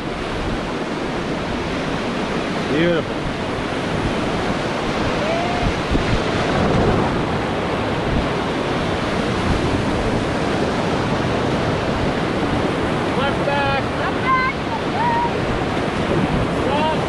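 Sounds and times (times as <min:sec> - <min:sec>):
river whitewater rushing: 0:00.0 - 0:17.0
wind buffeting microphone: 0:00.0 - 0:17.0.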